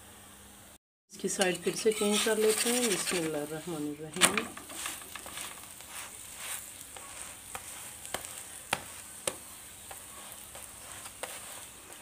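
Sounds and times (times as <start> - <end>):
flatbread sizzling in a pan: 0.7 - 12.0.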